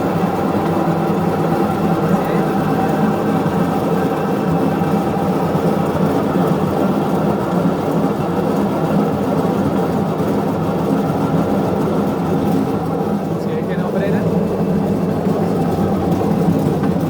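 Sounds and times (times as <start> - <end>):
washing machine spinning drone: 0.0 - 17.0.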